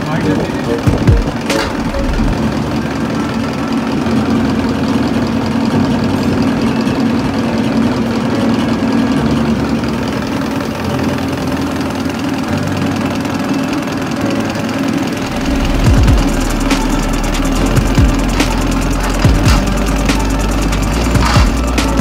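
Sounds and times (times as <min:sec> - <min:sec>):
test bench mechanical hum: 0:00.0 - 0:22.0.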